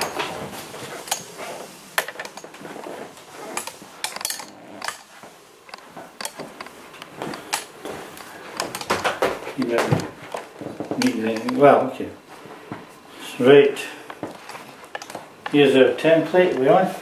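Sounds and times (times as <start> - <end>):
objects being handled: 0.0 - 13.3, 14.0 - 17.0.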